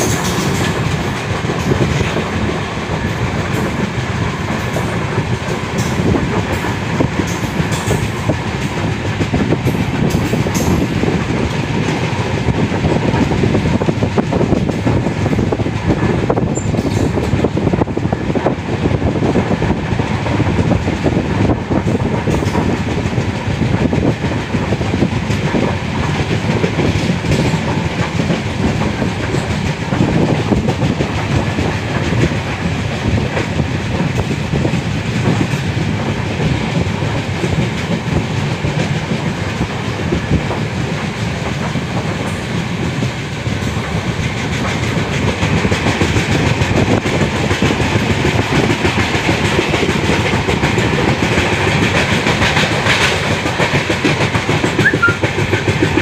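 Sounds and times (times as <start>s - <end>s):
train wheels clickety-clack on rails: 0.0s - 56.0s.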